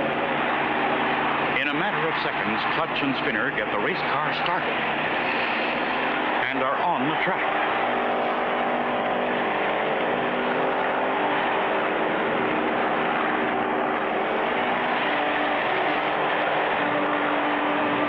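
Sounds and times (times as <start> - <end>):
race car engine droning: 0.0 - 18.0.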